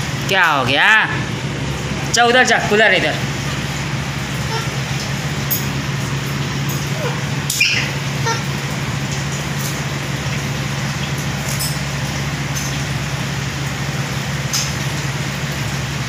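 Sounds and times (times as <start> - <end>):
air cooler fan humming: 0.0 - 16.0.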